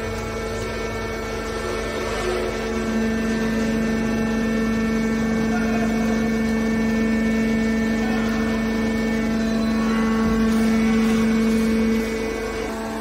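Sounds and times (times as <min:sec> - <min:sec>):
hydraulic pump hum: 0:00.0 - 0:13.0.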